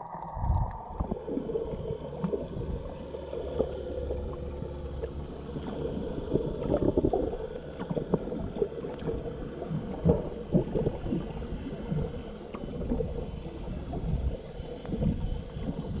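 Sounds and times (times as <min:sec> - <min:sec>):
steady hum: 0:00.0 - 0:16.0
underwater gurgling water: 0:00.0 - 0:16.0.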